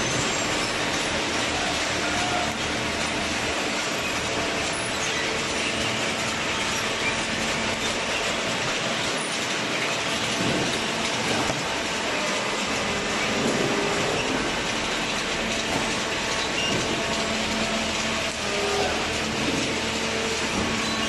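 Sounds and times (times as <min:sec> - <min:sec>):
baler machine running: 0:00.0 - 0:21.0.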